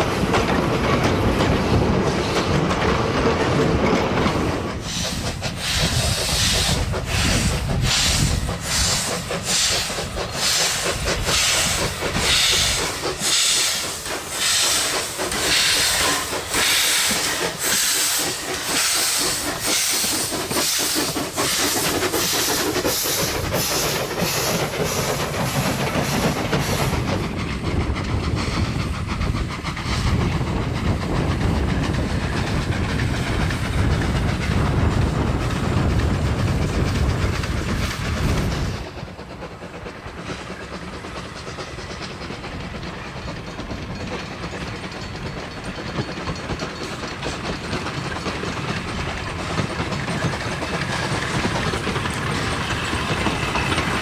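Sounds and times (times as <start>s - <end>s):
steam locomotive exhaust chuffs: 0.0s - 54.0s
train rumbling on rails: 0.0s - 54.0s.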